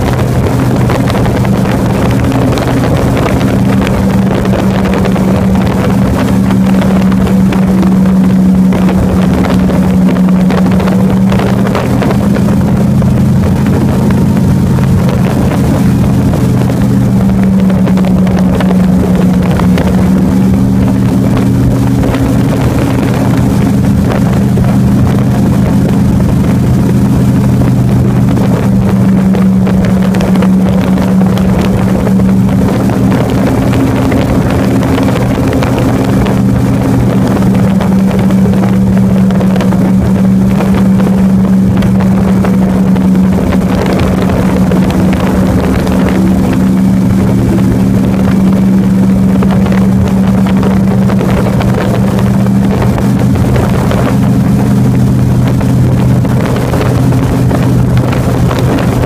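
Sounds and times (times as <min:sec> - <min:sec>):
airboat engine and propeller: 0:00.0 - 0:59.0.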